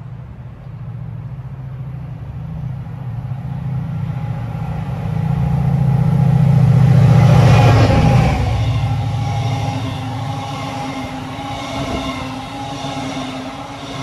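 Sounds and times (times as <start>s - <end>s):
locomotive engine drone: 0.0s - 14.0s
wheels on rails: 2.3s - 14.0s.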